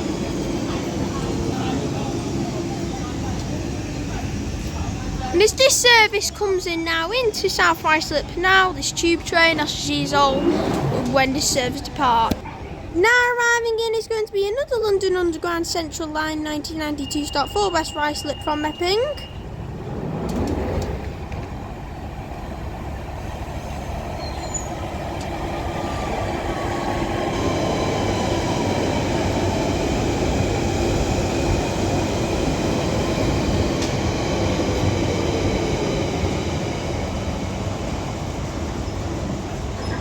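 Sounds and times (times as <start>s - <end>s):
underground train passing: 0.0s - 40.0s.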